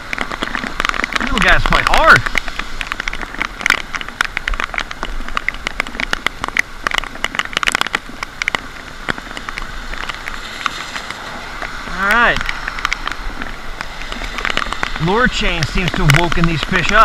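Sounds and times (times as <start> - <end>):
raindrops tapping close by: 0.0 - 17.0
steady rain: 0.0 - 17.0.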